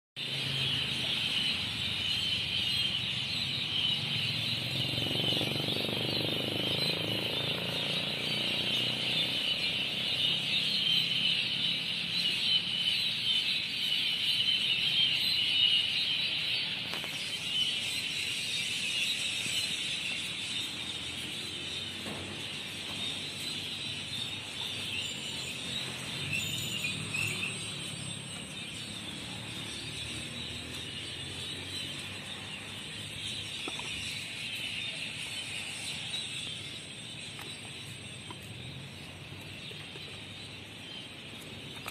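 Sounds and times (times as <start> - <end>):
high-pitched chirping chorus: 0.2 - 41.9.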